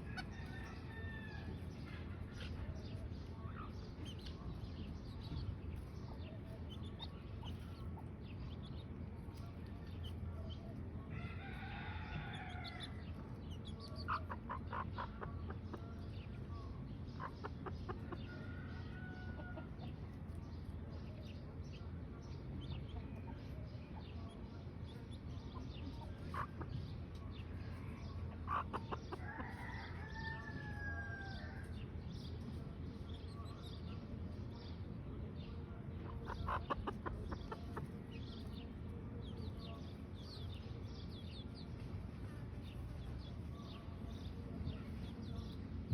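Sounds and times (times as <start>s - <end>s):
chickens clucking: 0.0s - 45.9s
steady low hum: 0.0s - 45.9s.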